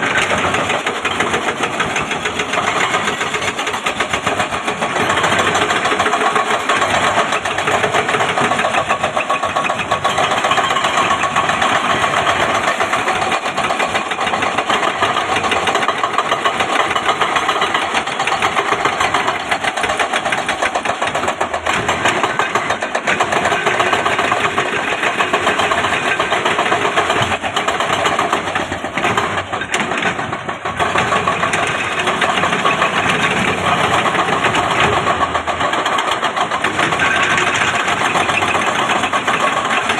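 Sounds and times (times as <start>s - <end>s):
heavy diesel engine rattling: 0.0s - 39.9s.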